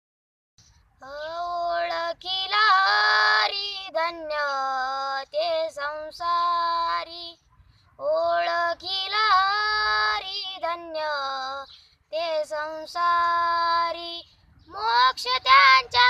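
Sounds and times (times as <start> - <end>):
boy singing devotional song: 1.0 - 7.4, 8.0 - 16.0.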